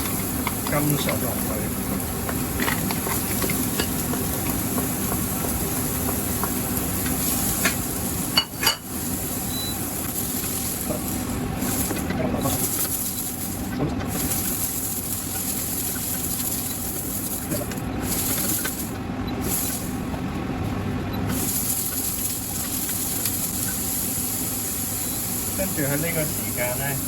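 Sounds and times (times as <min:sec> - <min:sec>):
vegetables sizzling in hot oil: 0:00.0 - 0:20.0, 0:21.2 - 0:27.0.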